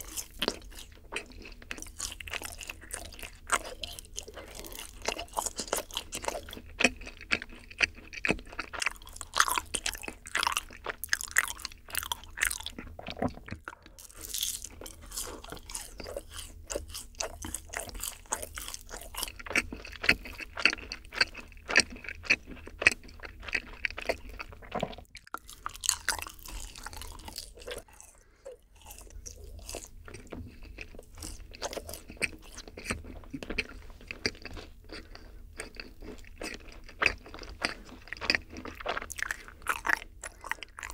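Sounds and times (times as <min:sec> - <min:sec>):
chewing and biting cookies: 0:00.0 - 0:40.9.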